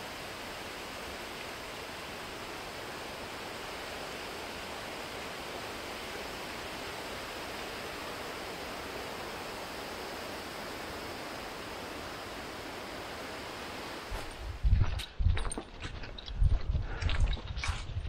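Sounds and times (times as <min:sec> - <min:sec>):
steady rushing hiss: 0:00.0 - 0:14.7.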